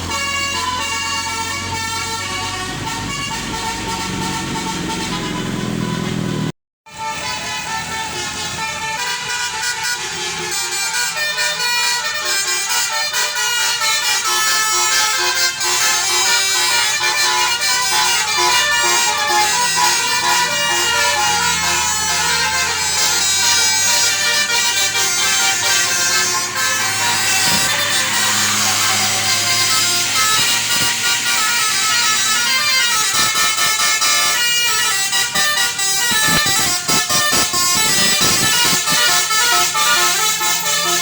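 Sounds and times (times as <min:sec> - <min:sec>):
bus engine running: 0:00.0 - 0:41.0
musical air horn melody: 0:00.0 - 0:41.0.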